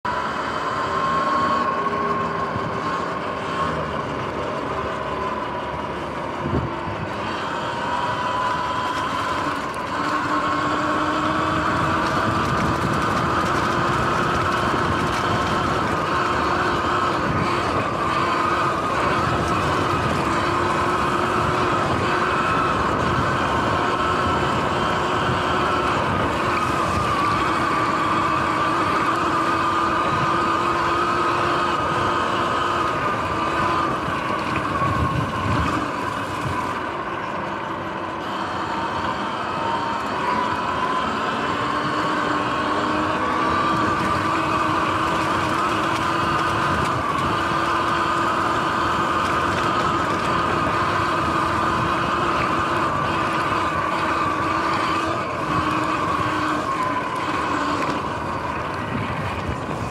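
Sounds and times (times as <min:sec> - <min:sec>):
electric dirt bike motor whining: 0:00.1 - 0:59.9
tyre and wind noise: 0:00.1 - 0:59.9.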